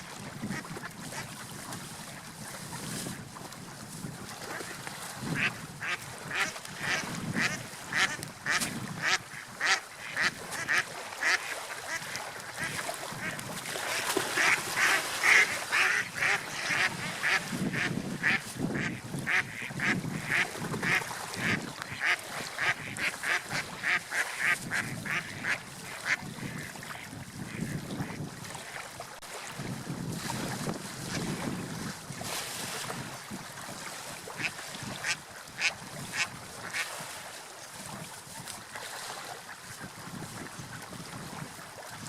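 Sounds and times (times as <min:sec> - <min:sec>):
wind and sea rush: 0:00.0 - 0:42.0.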